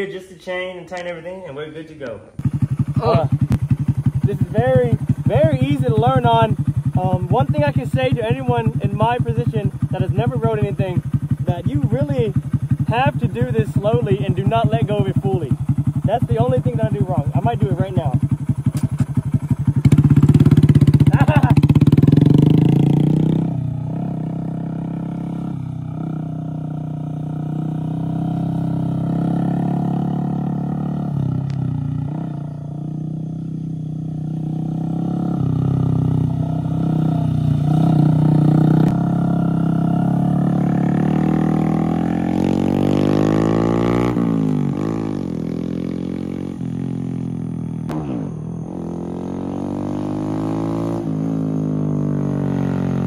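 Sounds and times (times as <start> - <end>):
motorbike engine revving: 2.4 - 53.0.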